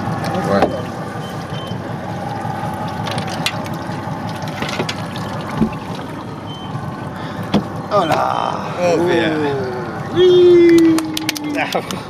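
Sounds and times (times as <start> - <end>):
sea and boat noise: 0.0 - 12.0.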